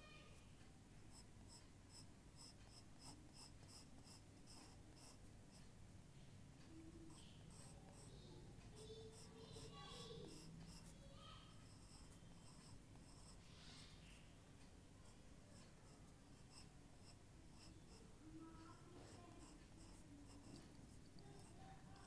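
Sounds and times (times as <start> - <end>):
pencil scratching on paper: 1.1 - 5.7, 6.9 - 14.2, 15.0 - 22.0.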